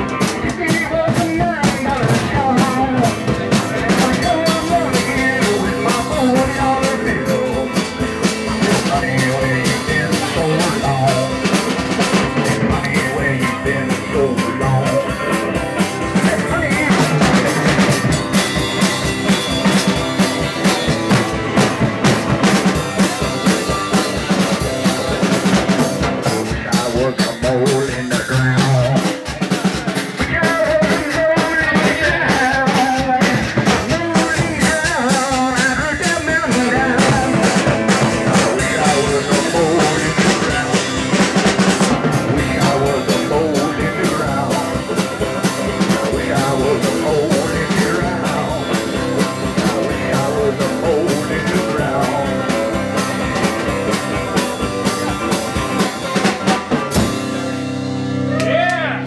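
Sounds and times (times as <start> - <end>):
person singing: 0.0 - 57.3
drum kit beat: 0.0 - 59.0
electric guitar: 0.0 - 59.0.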